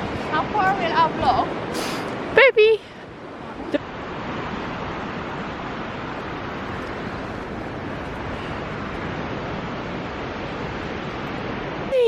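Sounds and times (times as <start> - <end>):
rain: 0.0 - 12.0
wind: 0.0 - 12.0
wind buffeting microphone: 0.0 - 12.0.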